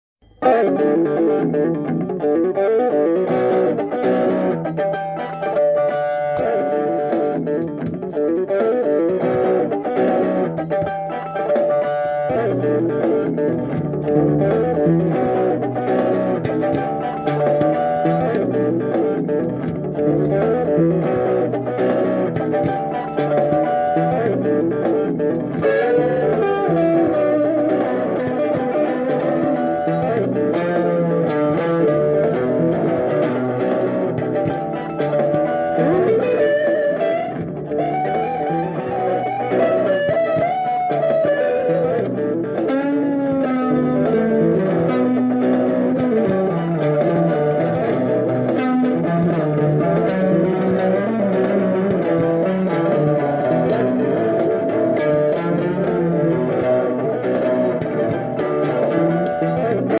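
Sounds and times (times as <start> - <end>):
electric guitar plucked notes: 0.2 - 60.0.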